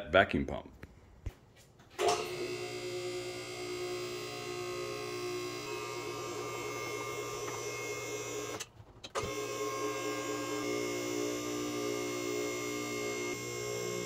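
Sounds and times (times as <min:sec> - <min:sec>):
hydraulic lift motor running: 0:01.9 - 0:14.0
motor starting click: 0:02.0 - 0:14.0.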